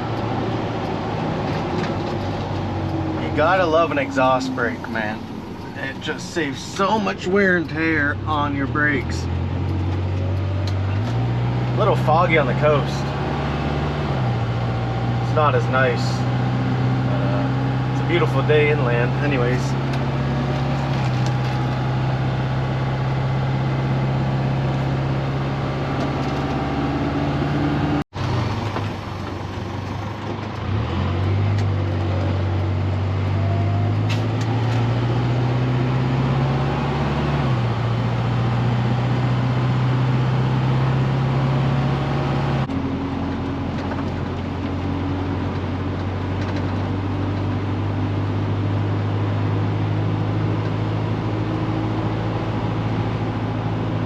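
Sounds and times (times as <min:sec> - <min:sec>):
road noise: 0:00.0 - 0:54.0
truck engine hum: 0:00.0 - 0:54.0.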